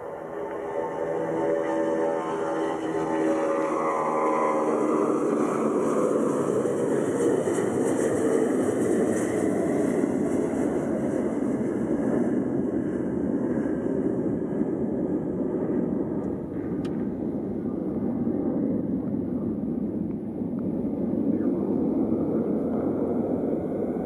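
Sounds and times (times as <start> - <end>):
airliner engine rumble: 0.0 - 24.0.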